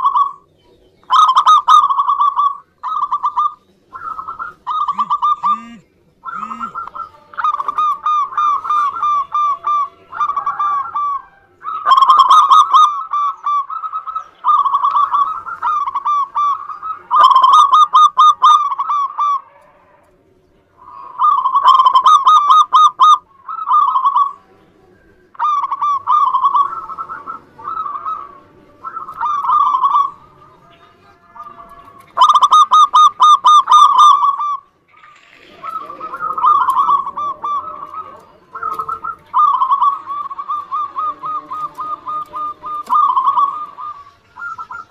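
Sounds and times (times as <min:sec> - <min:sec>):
doves cooing: 0:00.0 - 0:44.9.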